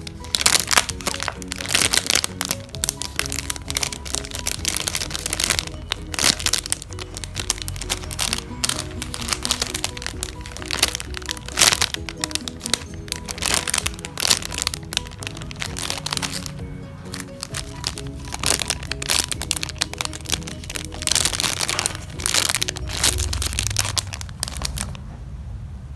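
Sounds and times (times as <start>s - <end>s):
foam toys crackling when squeezed: 0.0s - 25.0s
simple background melody: 0.0s - 25.0s.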